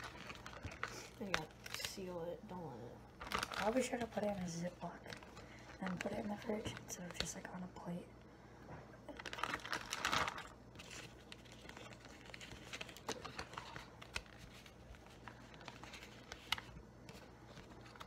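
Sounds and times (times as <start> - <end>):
plastic bag crinkling: 0.0 - 2.1, 3.2 - 7.6, 9.1 - 18.0.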